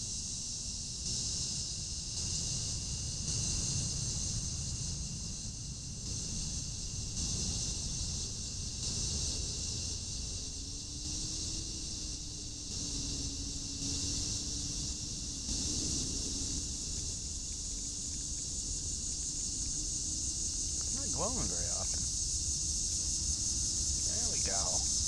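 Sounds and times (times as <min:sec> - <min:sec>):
high-pitched insect buzzing: 0:00.0 - 0:25.0
thin insect trill: 0:00.0 - 0:25.0.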